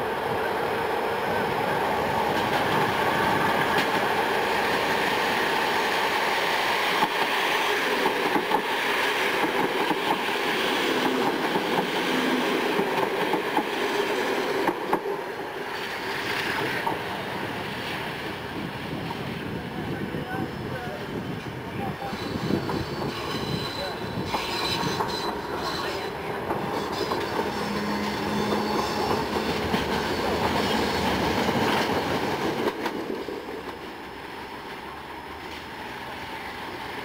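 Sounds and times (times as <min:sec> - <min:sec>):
electric train running past: 0:00.0 - 0:37.0.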